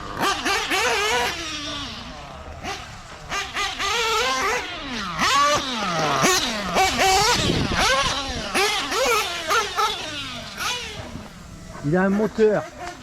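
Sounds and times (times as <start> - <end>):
model truck engine revving: 0.0 - 13.0.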